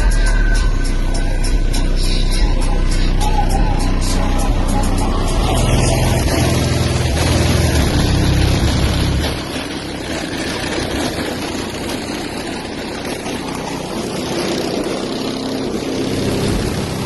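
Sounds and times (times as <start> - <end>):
subwoofers playing bass music: 0.0 - 17.0.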